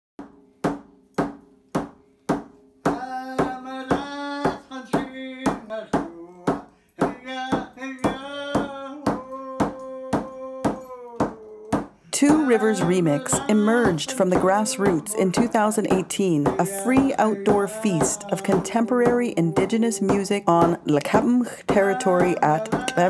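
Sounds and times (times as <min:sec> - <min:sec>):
hand drum beating: 0:00.2 - 0:04.6, 0:08.6 - 0:23.0
man singing: 0:02.9 - 0:23.0.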